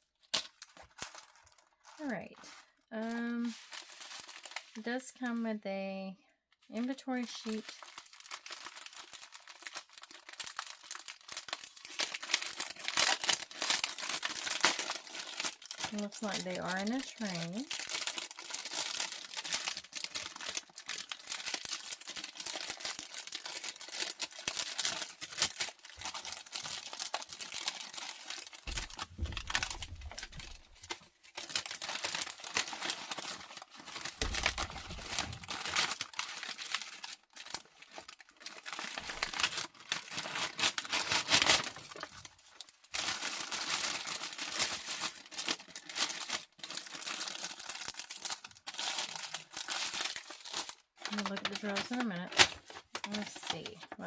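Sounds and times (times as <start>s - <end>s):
plastic packaging crinkling: 0.0s - 5.4s, 6.7s - 54.0s.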